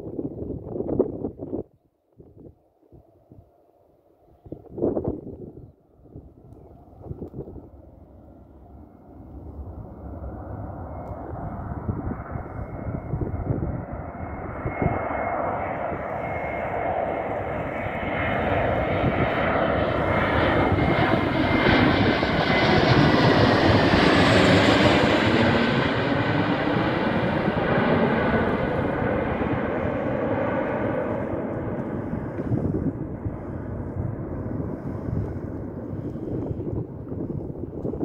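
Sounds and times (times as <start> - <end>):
jet airliner flying overhead: 0.0 - 38.0.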